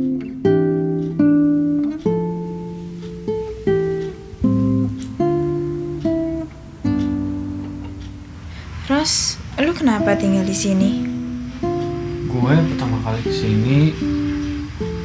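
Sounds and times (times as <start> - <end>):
guitar playing slow chords: 0.0 - 15.0.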